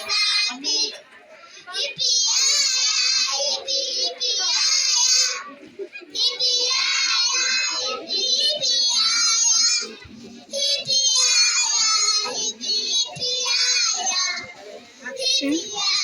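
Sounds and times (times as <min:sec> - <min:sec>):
child singing: 0:00.0 - 0:16.0.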